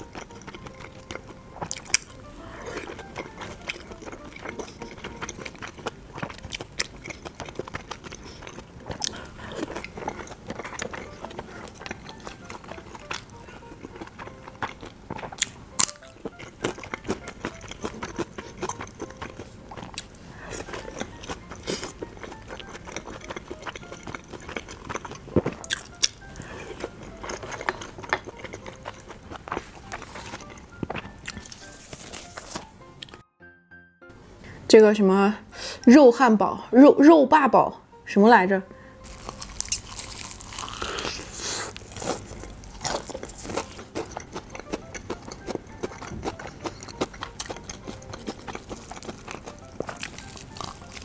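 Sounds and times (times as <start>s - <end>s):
chewing and mouth smacks: 0.0s - 33.2s, 39.0s - 51.0s
quiet background music: 0.0s - 51.0s.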